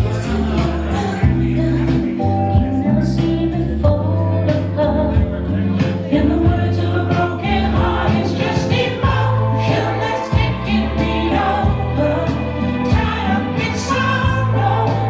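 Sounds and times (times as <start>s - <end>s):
live band playing soft rock: 0.0s - 15.0s
person singing: 0.0s - 15.0s.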